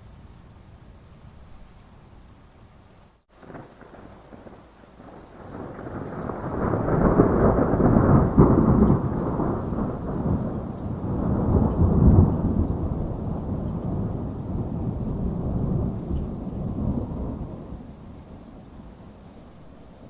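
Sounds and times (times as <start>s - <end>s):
steady rain: 0.0s - 20.0s
thunder rumbling: 3.3s - 20.0s.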